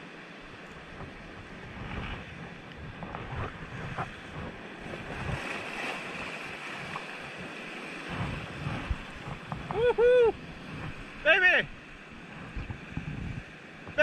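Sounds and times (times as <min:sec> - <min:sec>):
wind buffeting the microphone: 0:00.0 - 0:14.0
water splashes: 0:00.4 - 0:14.0
surf breaking against rocks: 0:00.9 - 0:13.2.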